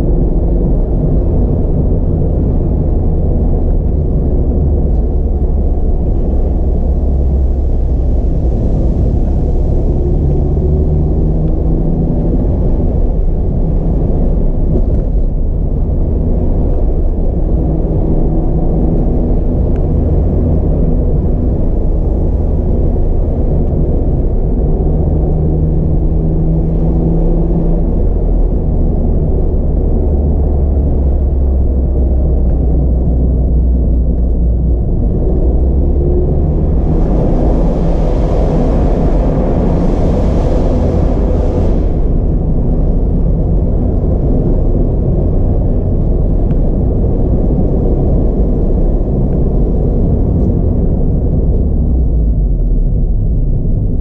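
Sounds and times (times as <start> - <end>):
car engine rumble and tyre noise: 0.0 - 54.0.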